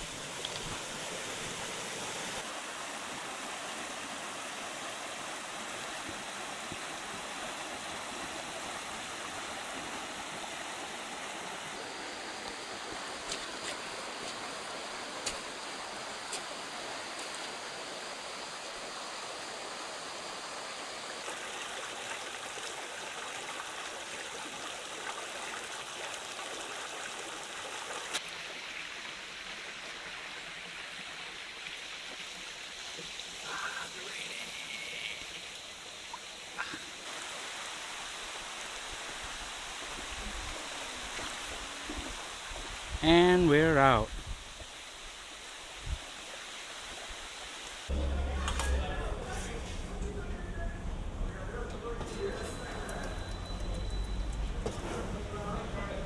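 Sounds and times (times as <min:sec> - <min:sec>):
stream running over stones: 0:00.0 - 0:48.7.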